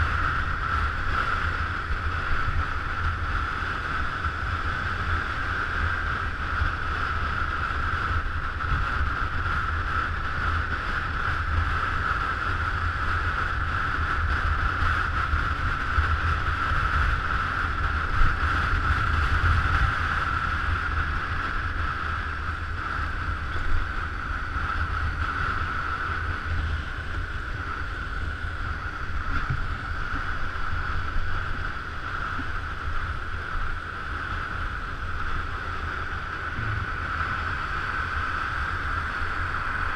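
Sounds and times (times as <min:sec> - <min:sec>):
scooter high-pitched hum: 0:00.0 - 0:39.9
wind buffeting microphone: 0:00.0 - 0:39.9.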